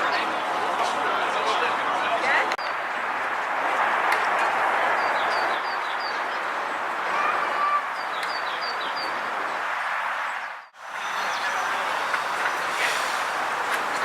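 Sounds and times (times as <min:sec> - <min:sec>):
steady rushing outdoor noise: 0:00.0 - 0:14.0.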